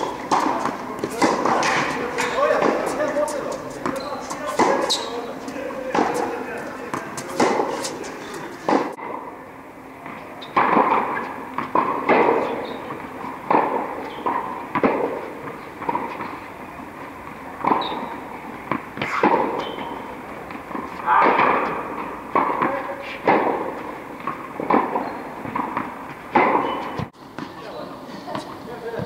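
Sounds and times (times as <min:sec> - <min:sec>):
tennis ball bouncing on court: 0:00.0 - 0:09.3, 0:10.0 - 0:27.6, 0:28.3 - 0:29.0
tennis ball struck by rackets: 0:00.0 - 0:09.3, 0:10.0 - 0:27.6.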